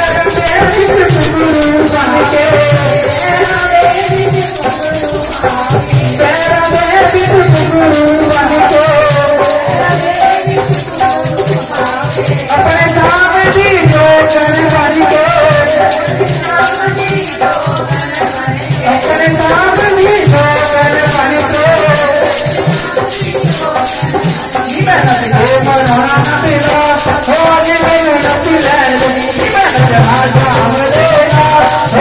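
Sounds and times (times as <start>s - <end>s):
hand drum beat: 0.0s - 32.0s
person singing devotional song: 0.0s - 32.0s
shaking jingles: 0.0s - 32.0s.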